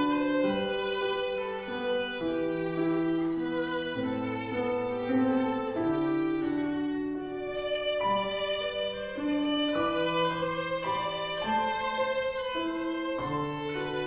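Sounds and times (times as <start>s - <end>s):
piano accompaniment: 0.0s - 14.0s
violin slow melody: 0.0s - 14.0s.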